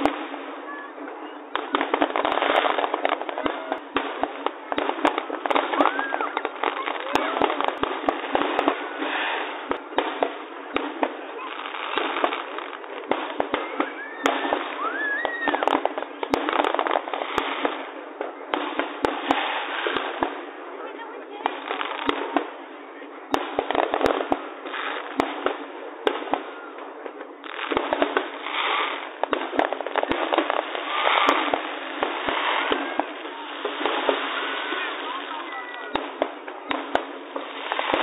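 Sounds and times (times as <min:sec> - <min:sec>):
fireworks bangs: 0:00.0 - 0:38.0
fireworks crackling: 0:00.0 - 0:38.0
fireworks whistling: 0:00.0 - 0:38.0.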